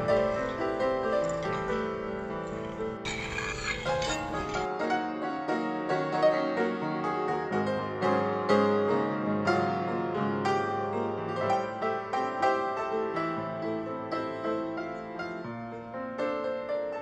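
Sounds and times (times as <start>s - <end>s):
piano notes: 0.0s - 17.0s.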